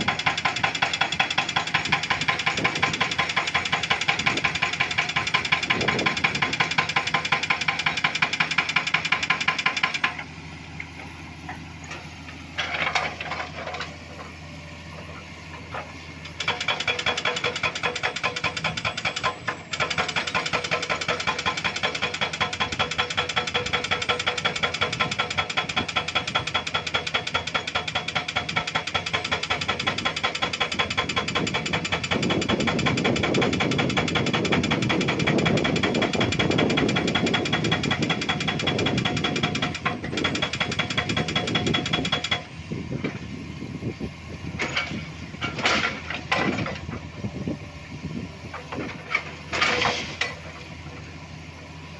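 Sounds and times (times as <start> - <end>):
hydraulic breaker hammering rock: 0.0 - 10.3, 15.7 - 42.5, 44.6 - 47.0, 48.5 - 50.6
excavator running: 0.0 - 51.9.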